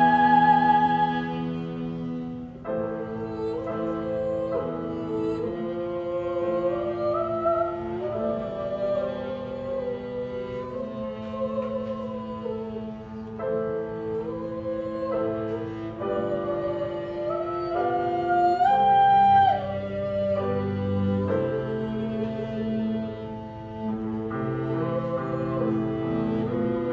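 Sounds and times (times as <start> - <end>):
cello sustained notes: 0.0 - 26.9
violin playing melody: 0.0 - 26.9.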